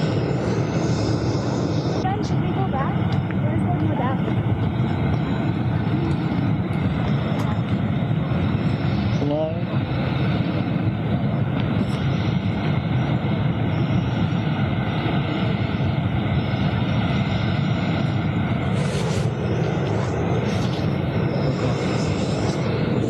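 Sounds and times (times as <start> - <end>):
steam vent roaring: 0.0 - 23.0.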